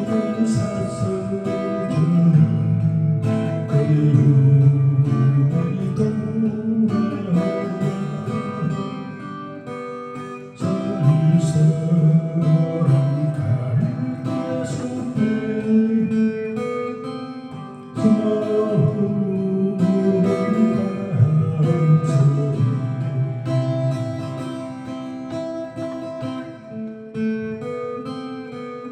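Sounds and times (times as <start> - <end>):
acoustic guitar melody: 0.0 - 28.9.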